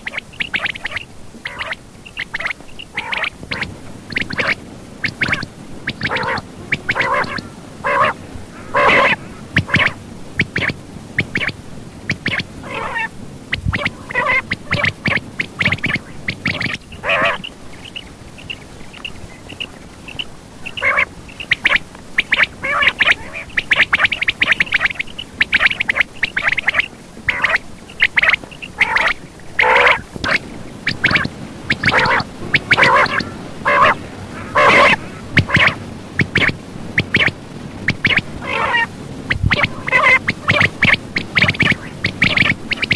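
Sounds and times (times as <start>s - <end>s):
quail raspy calls: 0.0s - 42.9s.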